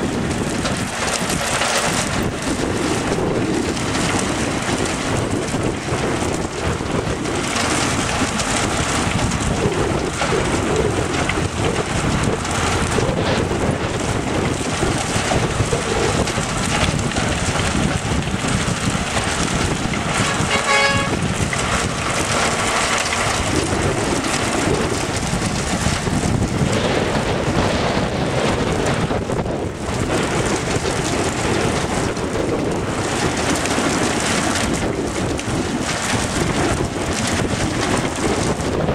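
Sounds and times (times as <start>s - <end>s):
machinery rushing noise: 0.0s - 38.9s
water pouring from pipes: 0.0s - 38.9s.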